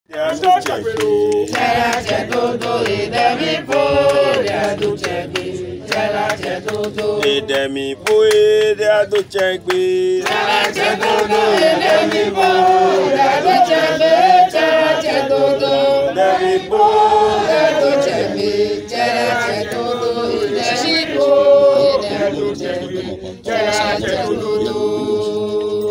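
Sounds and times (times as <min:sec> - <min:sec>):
group chanting: 0:01.0 - 0:07.6, 0:10.2 - 0:25.9.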